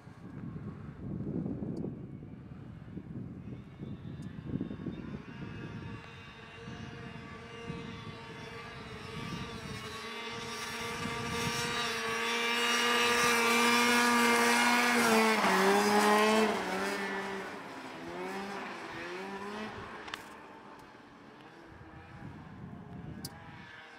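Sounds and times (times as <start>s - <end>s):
wind rumbling on microphone: 0.0s - 20.1s, 21.6s - 23.7s
snowmobile engine running: 2.8s - 23.9s.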